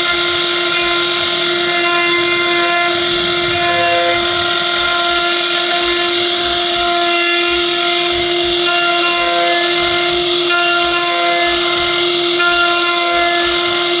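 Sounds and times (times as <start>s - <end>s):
router spindle high whine: 0.0s - 14.0s.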